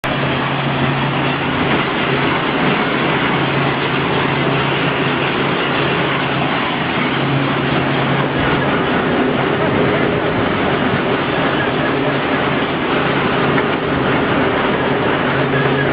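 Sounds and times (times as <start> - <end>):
heavy industrial machinery running: 0.0 - 15.9
low hum: 0.0 - 15.9.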